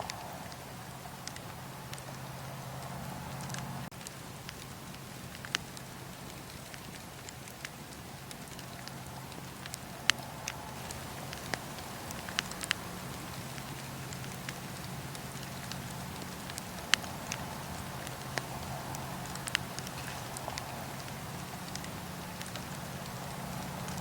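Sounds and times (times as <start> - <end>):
fire crackling and popping: 0.0 - 24.0
fire rushing: 0.0 - 24.0.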